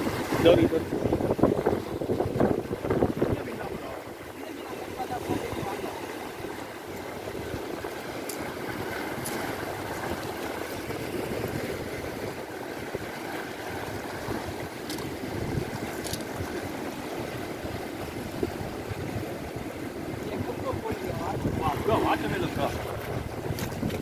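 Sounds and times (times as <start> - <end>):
sea water washing against rocks: 0.0 - 24.0.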